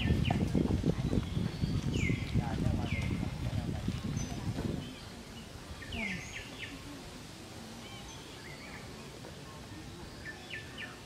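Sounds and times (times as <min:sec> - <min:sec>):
outdoor background noise: 0:00.0 - 0:11.0
wild birds calling: 0:00.0 - 0:11.0.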